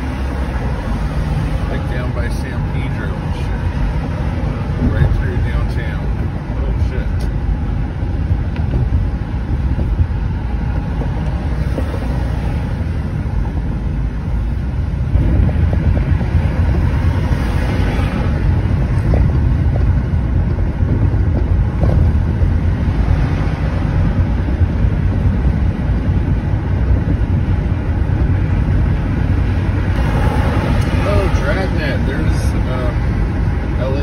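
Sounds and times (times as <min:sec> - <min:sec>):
car cabin road rumble: 0:00.0 - 0:34.0.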